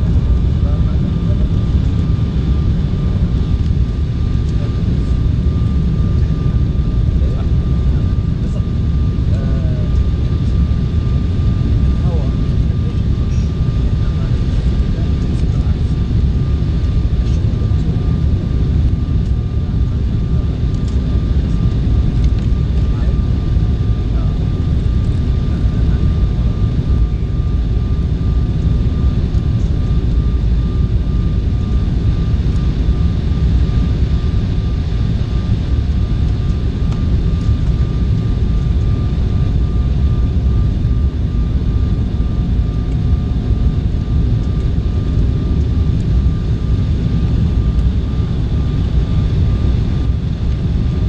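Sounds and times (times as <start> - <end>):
faint steady whine: 0.0 - 51.0
jet engines rumbling: 0.0 - 51.0
lower whine: 0.0 - 51.0.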